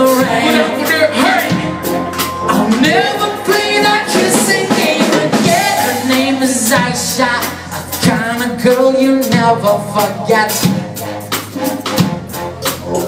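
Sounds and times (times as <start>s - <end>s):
person singing: 0.0s - 10.8s
drums beating: 0.0s - 13.0s
live reggae band: 0.0s - 13.0s.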